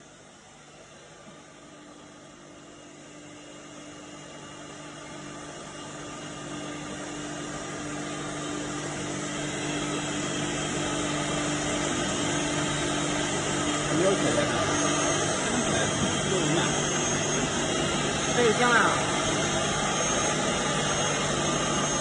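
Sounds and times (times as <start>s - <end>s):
machine humming: 3.0s - 22.0s.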